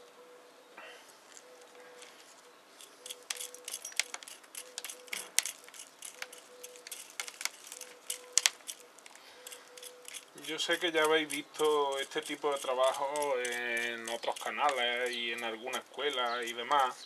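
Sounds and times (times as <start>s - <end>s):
soil crackling and rustling: 1.1s - 17.0s
sharp little clicks: 2.8s - 17.0s.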